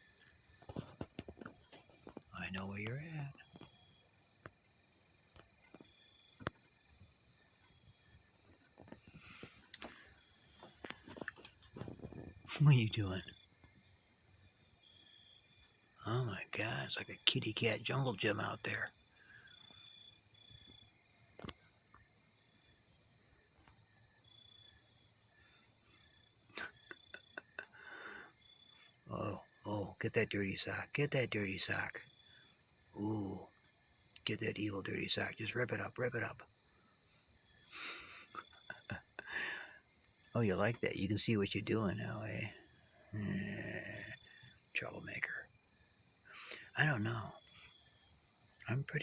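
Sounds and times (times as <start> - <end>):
crickets trilling: 0.0 - 49.0
night insects chorus: 0.0 - 49.0.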